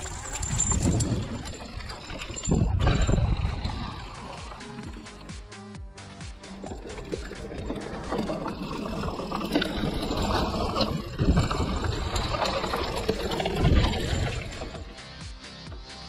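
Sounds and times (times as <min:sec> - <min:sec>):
bike tyres rumbling over dirt: 0:00.0 - 0:05.3, 0:06.4 - 0:15.0.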